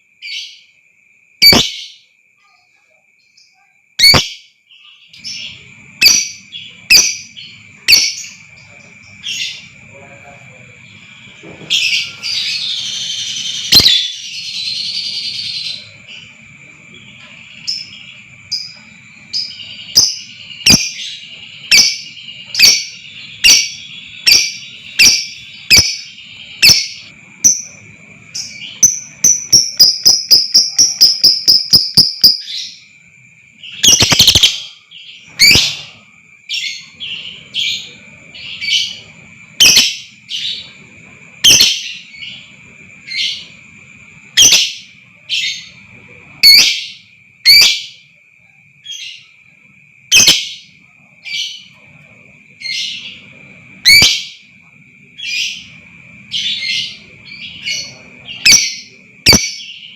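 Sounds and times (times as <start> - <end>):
lovebird chirping and chattering: 1.4 - 2.6, 3.4 - 9.8, 11.7 - 16.4, 17.0 - 32.9, 33.6 - 40.8, 41.4 - 43.6, 44.3 - 48.0, 50.1 - 51.7, 52.6 - 54.5, 55.2 - 59.9.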